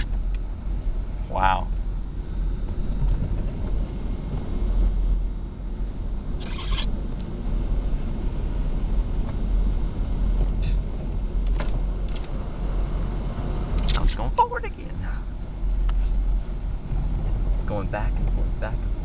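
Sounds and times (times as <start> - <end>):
diesel engines rumbling: 0.0 - 19.0.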